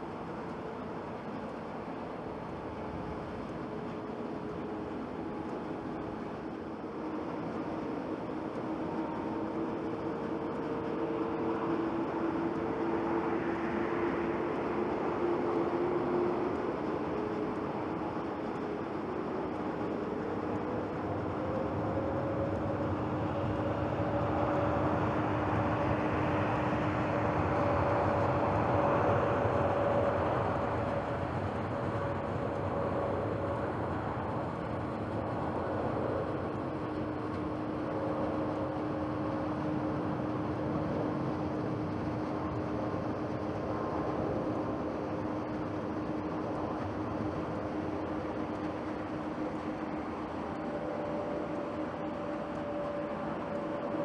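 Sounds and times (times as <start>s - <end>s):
jet engines roaring: 4.8s - 54.0s.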